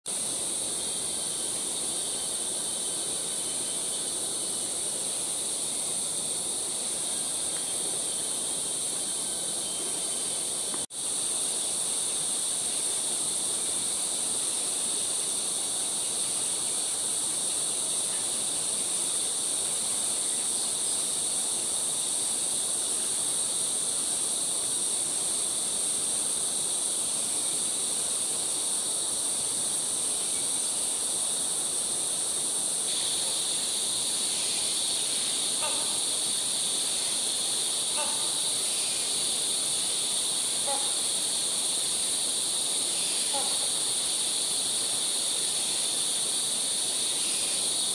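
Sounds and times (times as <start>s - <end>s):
insects chorus: 0.1s - 47.9s.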